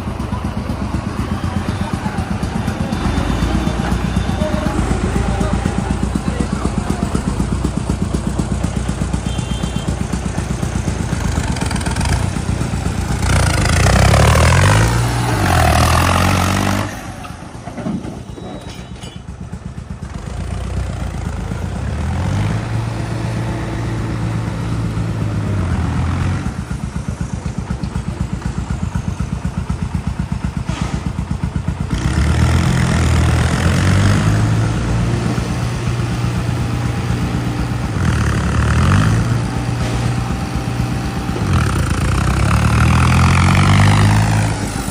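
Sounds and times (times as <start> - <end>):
tractor diesel engine revving: 0.0 - 18.4, 19.2 - 44.9.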